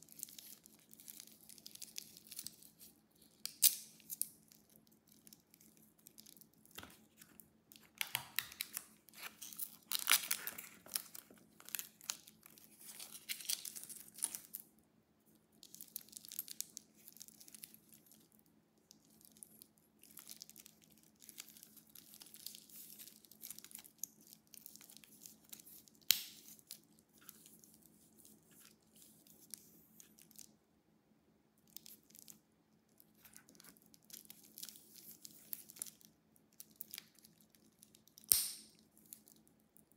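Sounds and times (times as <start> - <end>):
wrapping crinkling and tearing: 0.0 - 14.7, 15.6 - 30.6, 31.6 - 39.9.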